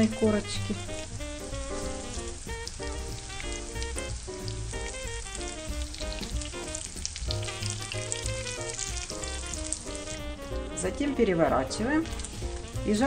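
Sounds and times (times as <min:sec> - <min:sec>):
background music: 0:00.0 - 0:13.0
fritters sizzling in oil: 0:00.0 - 0:13.0.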